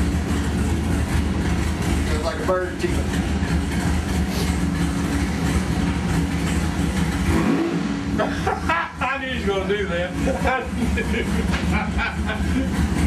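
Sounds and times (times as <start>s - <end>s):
engine running on dyno: 0.0s - 13.0s.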